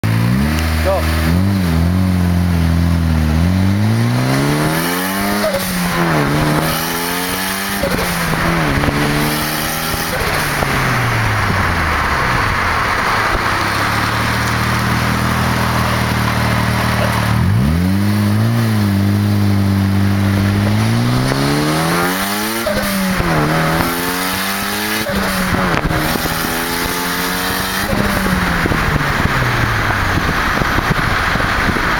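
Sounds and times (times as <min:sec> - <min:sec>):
turbocharged car engine revving: 0:00.0 - 0:31.9.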